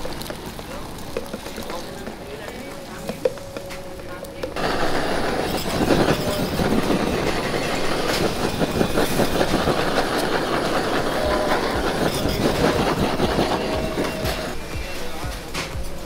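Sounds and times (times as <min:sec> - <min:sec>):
blowtorch hissing: 0:00.0 - 0:16.0
food sizzling on griddle: 0:00.0 - 0:16.0.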